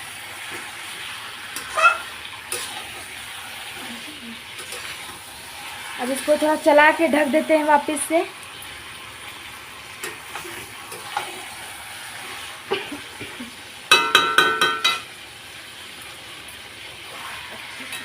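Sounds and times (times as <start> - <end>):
curry sizzling: 0.0 - 18.0.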